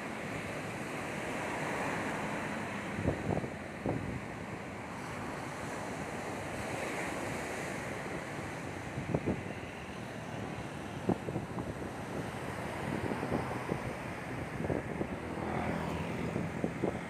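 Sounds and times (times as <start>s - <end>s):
surf breaking on a beach: 0.0s - 17.0s
wind gusts on microphone: 0.0s - 17.0s.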